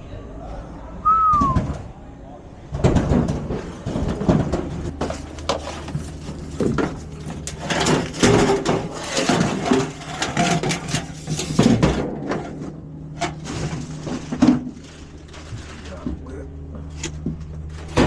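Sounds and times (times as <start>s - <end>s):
steady low hum: 0.0s - 18.0s
irregular knocks and clatter: 2.7s - 18.0s.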